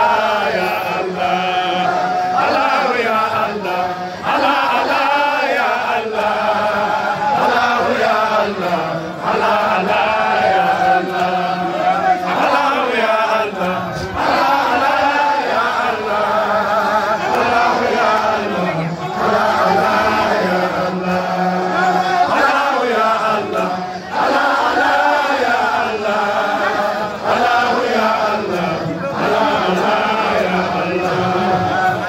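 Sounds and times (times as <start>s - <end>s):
group of voices chanting: 0.0s - 32.0s.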